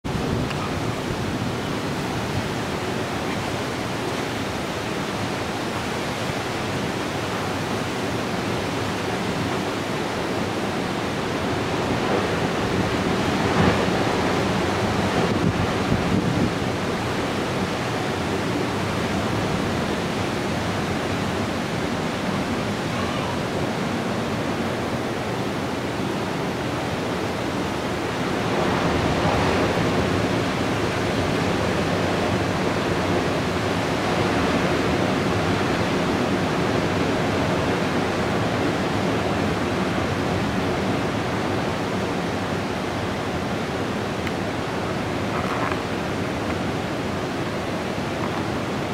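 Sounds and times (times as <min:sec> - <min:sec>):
heavy surf breaking: 0:00.0 - 0:48.9
wind: 0:00.0 - 0:48.9.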